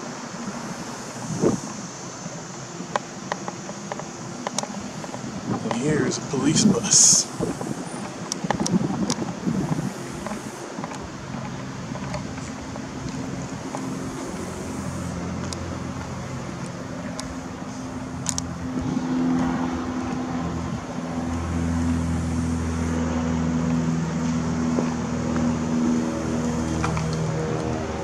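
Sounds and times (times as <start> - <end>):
bus engine humming: 0.0 - 28.0.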